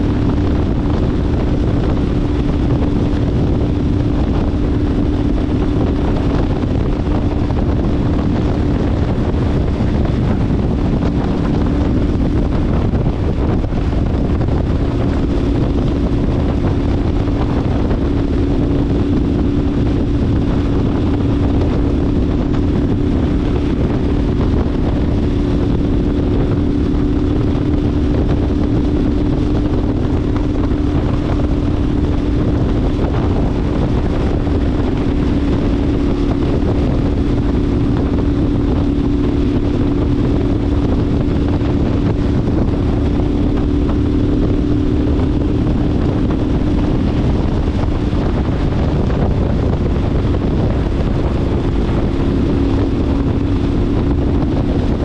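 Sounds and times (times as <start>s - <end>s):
motorcycle engine droning: 0.0s - 55.0s
wind rushing over microphone: 0.0s - 55.0s.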